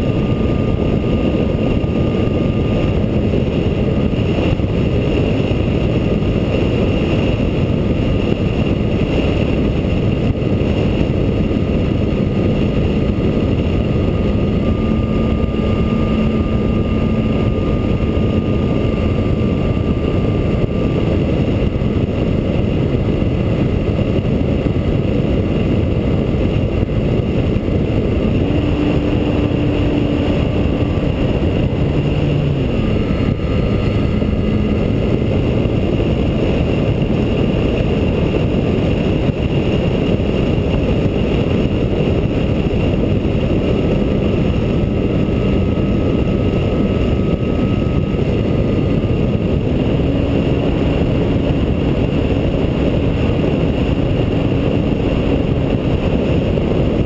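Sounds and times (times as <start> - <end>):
model airplane motor and propeller drone: 0.0 - 57.0
wind rushing on microphone: 0.0 - 57.0.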